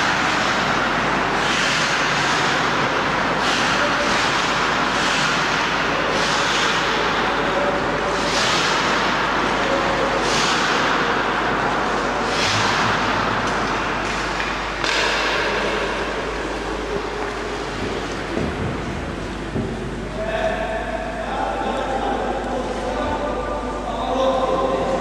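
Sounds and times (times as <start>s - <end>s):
rink din with low hum: 0.0s - 25.0s.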